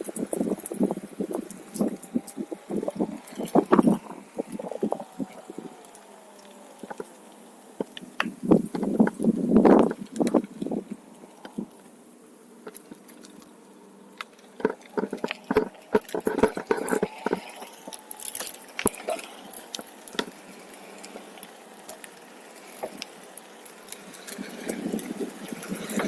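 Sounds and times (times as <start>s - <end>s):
tire rolling over rough trail: 0.0s - 26.0s.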